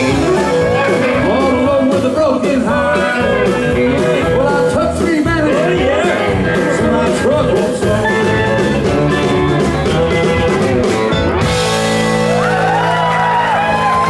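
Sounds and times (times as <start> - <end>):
country band playing: 0.0 - 14.0
drum beat: 0.0 - 14.0.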